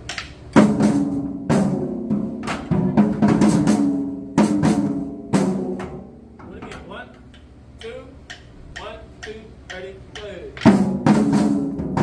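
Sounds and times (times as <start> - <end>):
tenor drums struck with sticks: 0.0 - 12.0.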